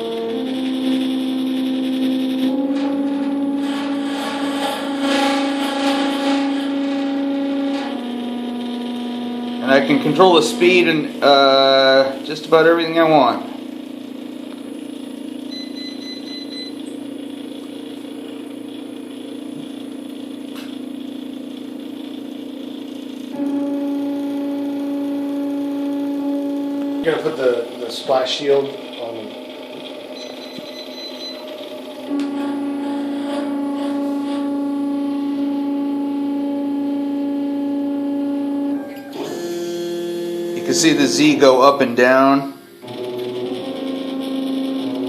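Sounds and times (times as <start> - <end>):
higher motor whine: 0.0 - 45.0
stepper motors humming: 0.0 - 45.0.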